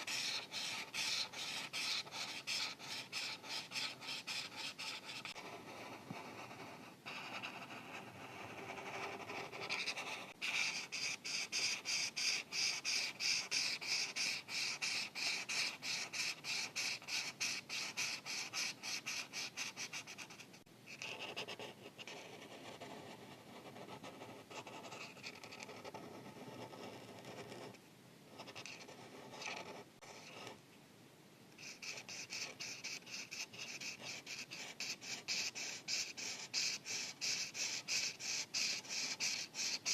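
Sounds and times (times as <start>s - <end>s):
marker coloring on paper: 0.0s - 27.7s, 28.4s - 30.6s, 31.6s - 39.9s.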